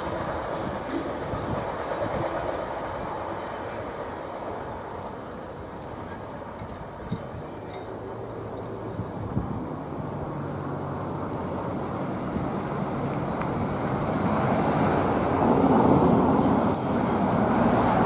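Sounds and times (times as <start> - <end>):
freight train rumble: 0.0 - 18.0
vehicle approaching on road: 0.0 - 18.0.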